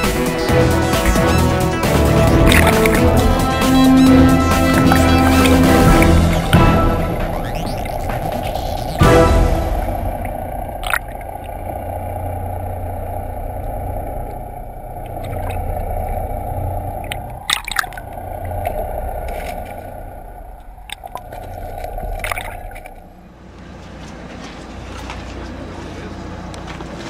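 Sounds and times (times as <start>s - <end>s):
water sloshing against hull: 0.0s - 25.7s
boat engine running: 0.0s - 27.0s.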